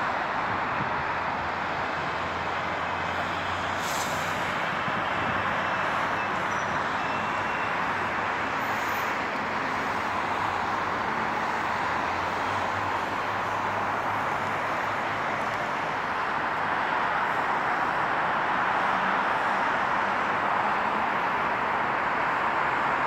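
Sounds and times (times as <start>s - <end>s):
road traffic rush: 0.0s - 23.0s.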